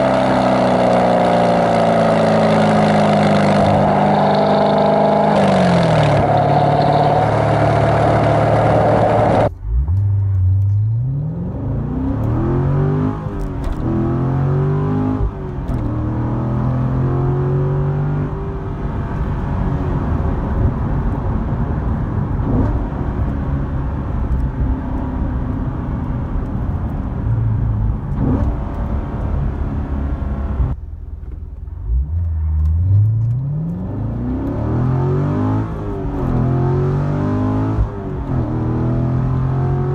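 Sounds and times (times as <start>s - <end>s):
car engine accelerating hard: 0.0s - 30.8s, 31.8s - 39.9s.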